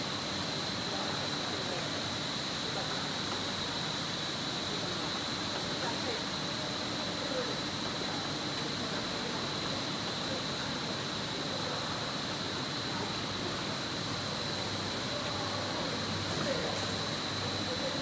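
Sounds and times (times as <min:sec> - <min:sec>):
machinery high-pitched whine: 0:00.0 - 0:18.0.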